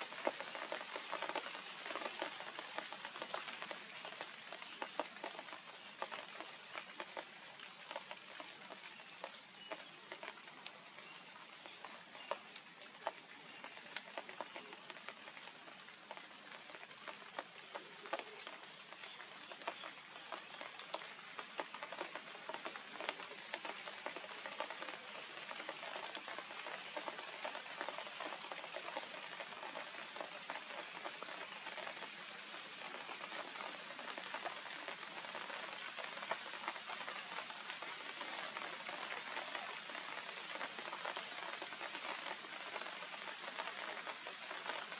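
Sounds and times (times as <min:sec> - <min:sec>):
light rain on grass and leaves: 0:00.0 - 0:44.9.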